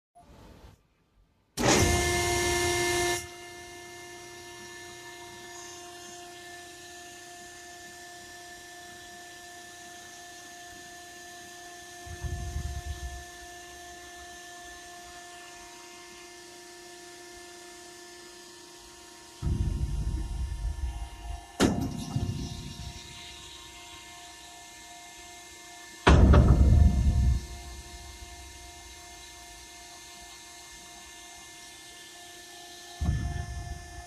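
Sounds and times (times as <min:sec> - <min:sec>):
hydraulic pump whine: 0:01.6 - 0:34.0.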